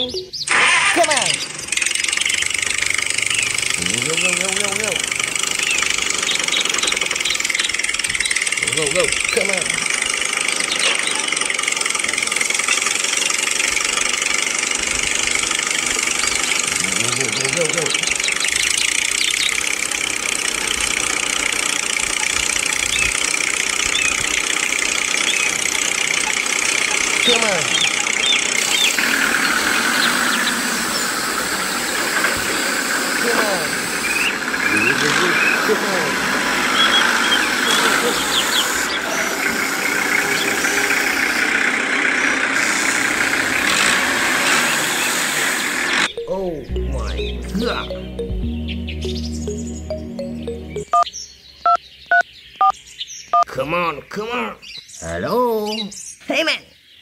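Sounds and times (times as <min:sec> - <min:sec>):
small motor and gears whining: 0:00.5 - 0:46.1.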